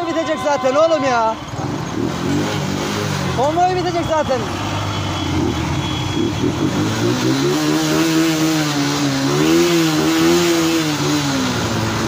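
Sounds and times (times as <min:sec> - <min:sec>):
other engines running: 0:00.0 - 0:12.0
motorcycle engine revving: 0:01.3 - 0:12.0.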